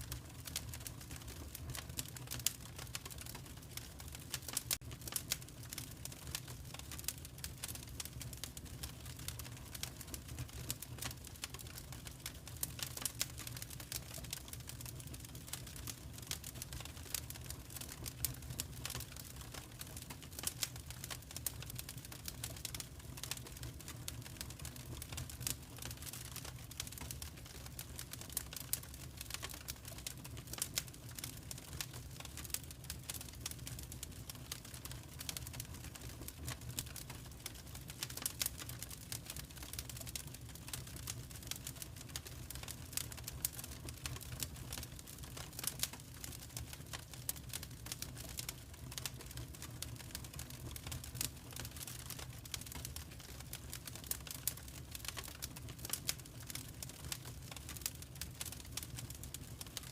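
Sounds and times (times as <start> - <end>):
low rumble of flames: 0.0 - 59.8
wood fire crackling: 0.0 - 59.9.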